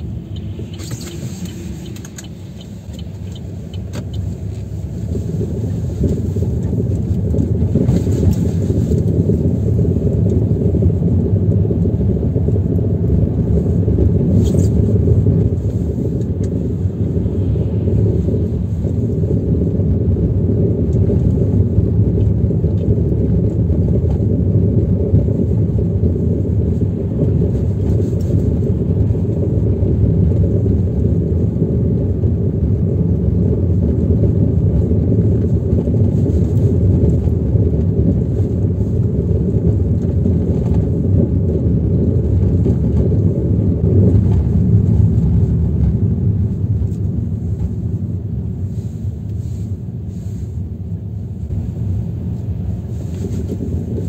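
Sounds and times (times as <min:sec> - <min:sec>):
car tyres rumbling on rough road: 0:00.0 - 0:54.0.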